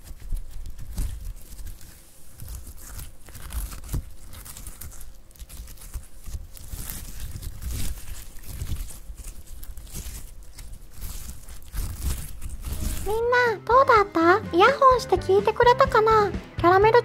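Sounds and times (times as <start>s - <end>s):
slime squelching: 0.0s - 15.4s.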